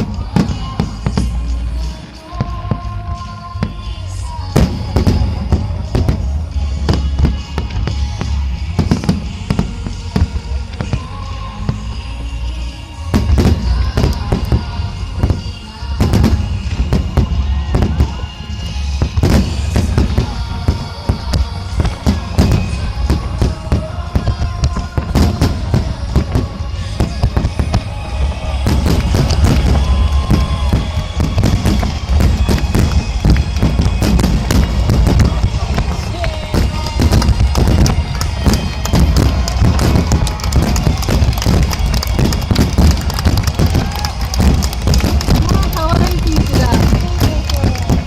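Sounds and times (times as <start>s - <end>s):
firework shells bursting: 0.0s - 48.0s
music playing: 0.0s - 48.0s.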